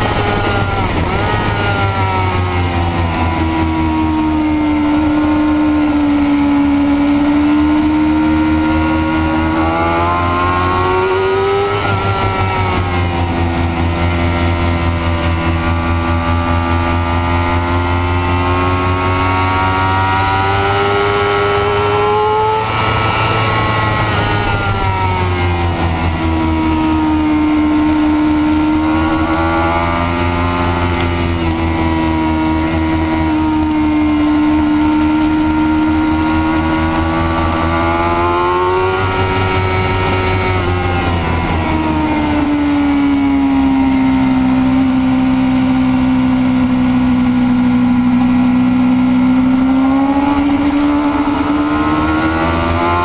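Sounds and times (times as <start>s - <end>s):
motorcycle engine at high revs: 0.0s - 53.0s.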